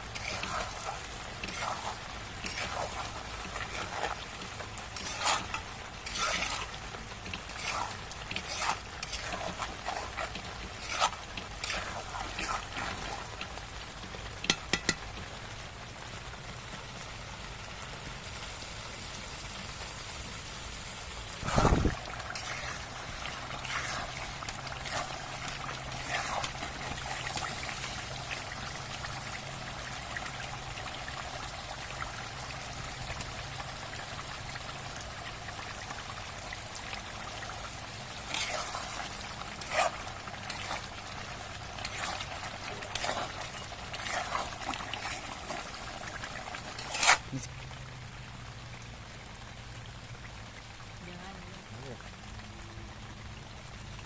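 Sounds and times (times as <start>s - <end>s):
curry bubbling in a pot: 0.0s - 51.1s.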